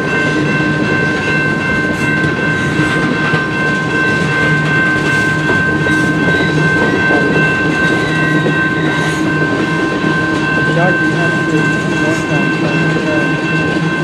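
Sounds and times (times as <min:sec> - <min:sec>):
steady high ringing tone: 0:00.0 - 0:14.0
train cars rumbling and clattering: 0:00.0 - 0:14.0.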